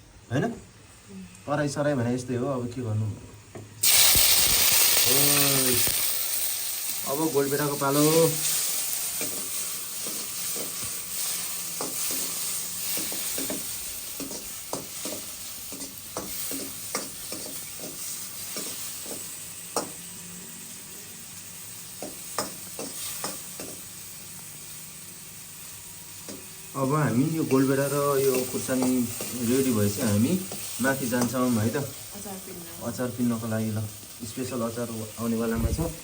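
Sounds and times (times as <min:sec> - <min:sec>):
tomatoes sizzling in hot oil: 0:03.8 - 0:36.0.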